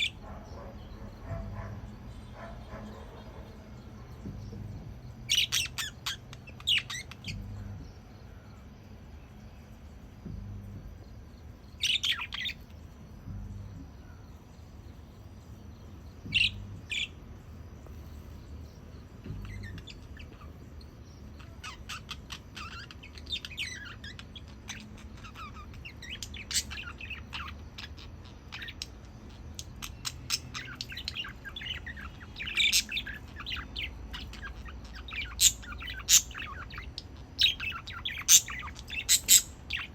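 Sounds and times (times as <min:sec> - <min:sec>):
budgerigars chirping and chattering: 0:00.0 - 0:07.9, 0:11.7 - 0:13.8, 0:15.9 - 0:39.9.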